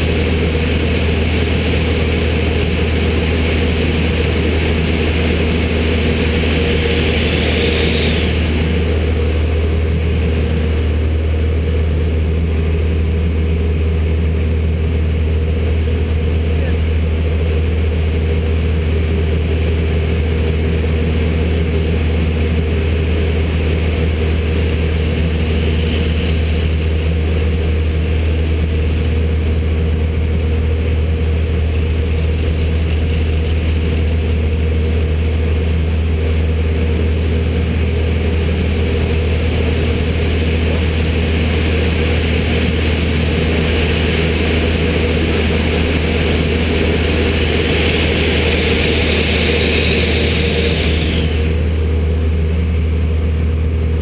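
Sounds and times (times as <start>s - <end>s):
propeller engine droning: 0.0s - 54.0s.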